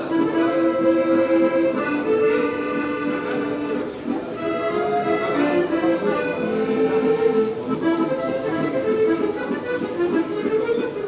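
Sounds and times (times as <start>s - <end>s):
piano accordion melody: 0.0s - 11.0s.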